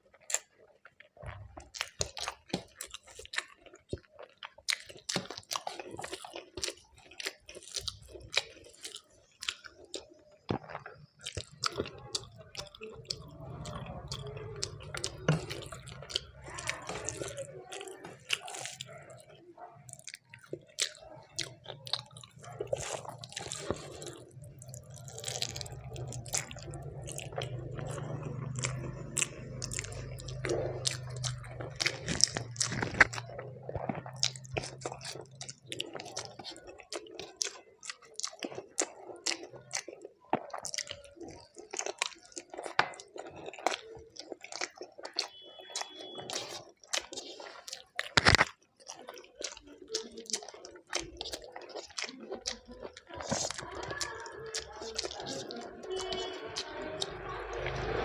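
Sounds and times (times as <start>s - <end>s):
person chewing and biting: 0.2s - 56.7s.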